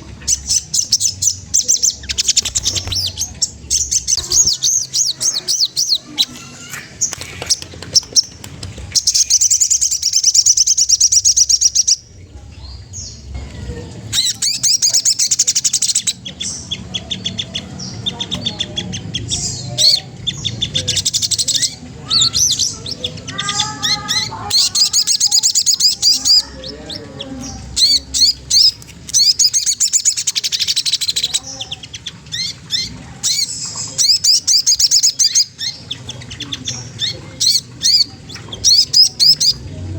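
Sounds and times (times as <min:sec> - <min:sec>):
songbird chattering trills: 0:00.0 - 0:39.9.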